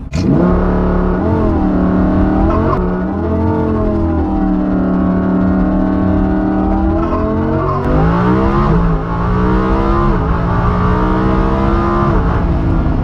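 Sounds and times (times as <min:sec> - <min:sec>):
sports car engine shifting gears: 0:00.0 - 0:13.0.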